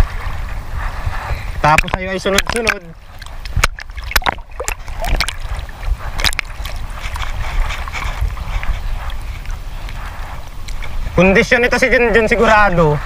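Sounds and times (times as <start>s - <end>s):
sea waves sloshing and splashing: 0.0s - 11.2s.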